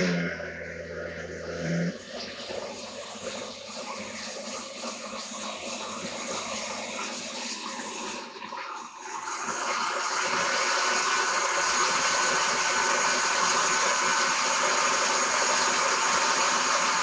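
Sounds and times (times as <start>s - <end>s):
blender motor running: 0.0s - 17.0s.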